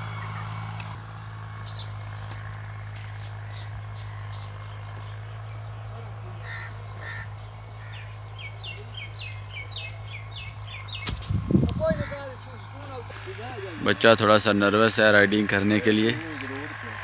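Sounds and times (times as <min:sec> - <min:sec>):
birds calling: 0:00.0 - 0:17.0
steady low hum: 0:00.0 - 0:17.0.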